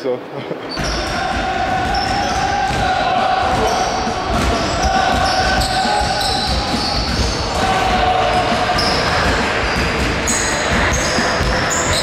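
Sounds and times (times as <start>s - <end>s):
sneakers squeaking: 0.7s - 12.0s
basketballs bouncing on wooden floor: 0.8s - 7.8s, 8.8s - 12.0s.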